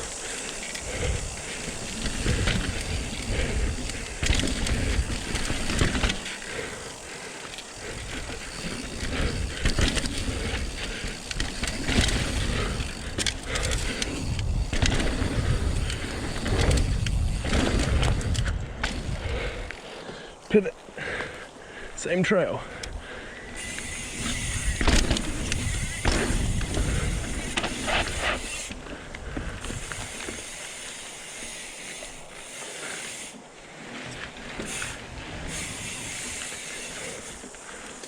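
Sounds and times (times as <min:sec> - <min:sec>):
bike knocking and rattling: 0:00.0 - 0:20.2, 0:22.8 - 0:38.0
bike tyre ground noise: 0:00.0 - 0:38.0.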